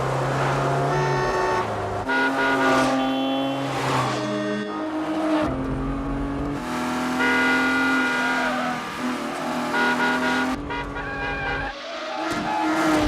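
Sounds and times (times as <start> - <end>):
car engines revving high: 0.0 - 13.0.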